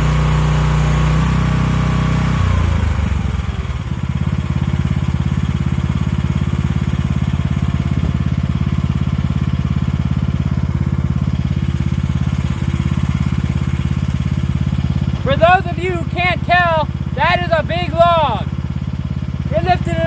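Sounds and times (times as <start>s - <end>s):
mini excavator engine running: 0.0s - 20.0s.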